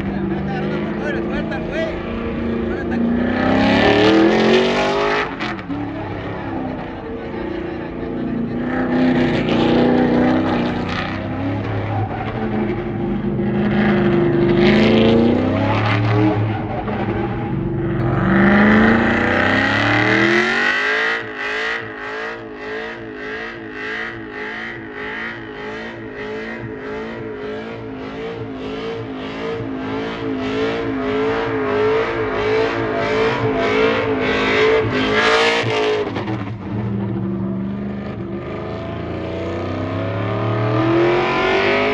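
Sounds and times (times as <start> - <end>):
tires squealing: 0.0 - 41.9
truck engine revving hard: 0.0 - 41.9.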